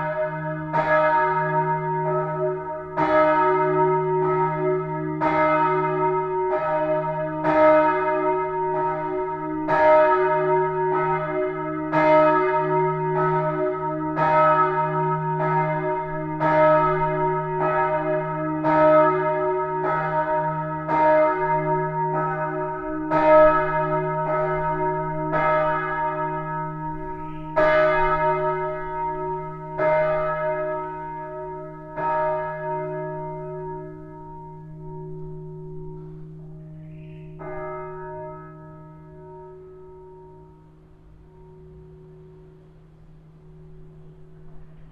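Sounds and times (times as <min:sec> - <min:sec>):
church bells ringing: 0:00.0 - 0:44.9
low hum of large bell: 0:00.0 - 0:44.9.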